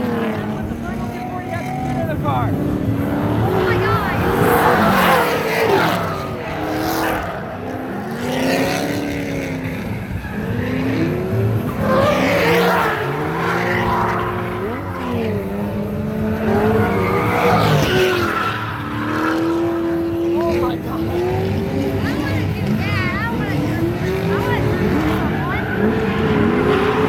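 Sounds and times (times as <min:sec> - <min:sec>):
car engines revving: 0:00.0 - 0:27.0
tires squealing: 0:00.0 - 0:27.0.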